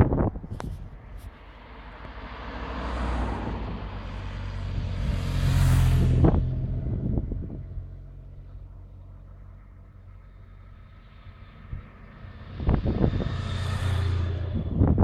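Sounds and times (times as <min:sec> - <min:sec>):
motorcycle passing by: 0:02.2 - 0:15.0.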